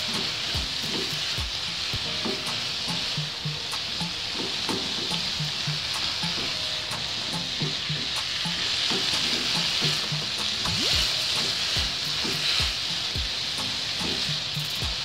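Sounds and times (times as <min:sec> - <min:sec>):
cabbage sizzling in oil: 0:00.0 - 0:15.0.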